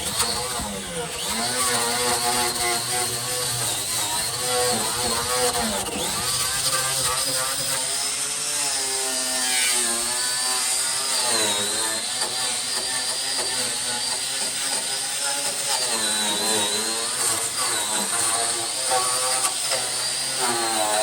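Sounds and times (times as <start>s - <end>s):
power tool motor running: 0.0s - 21.0s.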